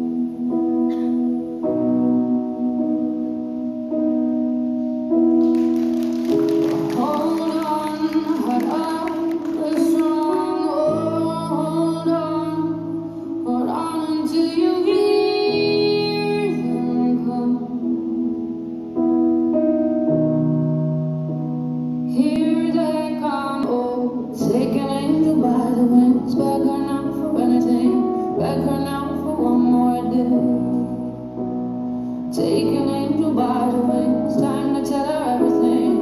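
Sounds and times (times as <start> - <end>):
piano: 0.0 - 36.0.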